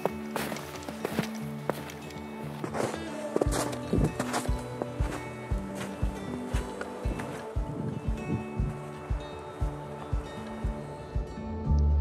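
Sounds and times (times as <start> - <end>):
background music with soft beat: 0.0 - 12.0.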